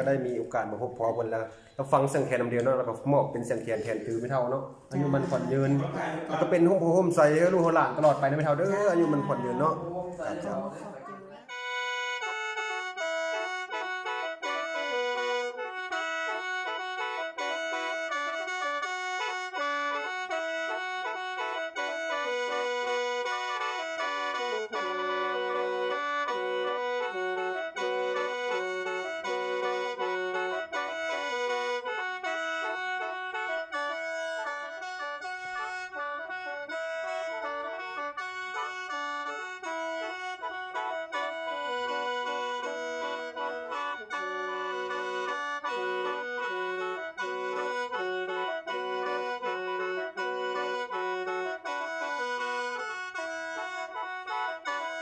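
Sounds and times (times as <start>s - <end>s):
mouth organ melody over drone: 4.9s - 18.8s, 19.7s - 55.0s.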